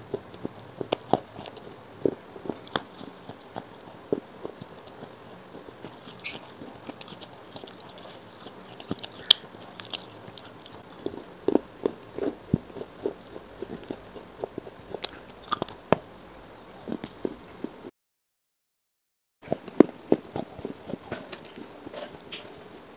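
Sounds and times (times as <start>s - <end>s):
chewing brittle clay crunches: 0.0s - 16.0s, 16.7s - 17.8s, 19.4s - 22.2s.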